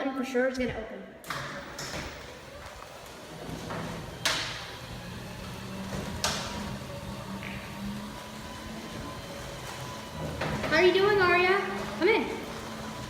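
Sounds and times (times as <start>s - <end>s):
garage door motor hum: 1.2s - 13.0s.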